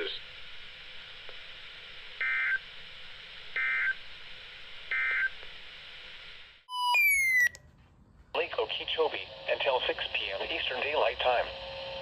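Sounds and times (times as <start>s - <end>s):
radio hiss: 0.0s - 6.6s, 8.4s - 12.0s.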